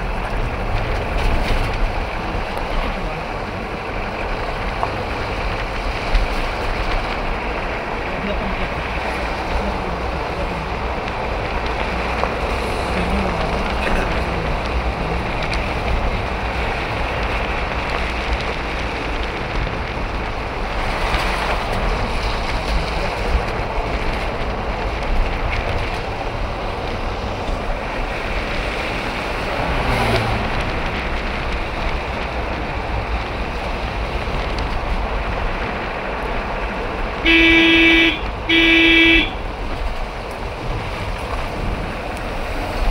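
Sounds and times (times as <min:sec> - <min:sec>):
low engine rumble: 0:00.0 - 0:42.9
tyres on road surface: 0:00.0 - 0:42.9.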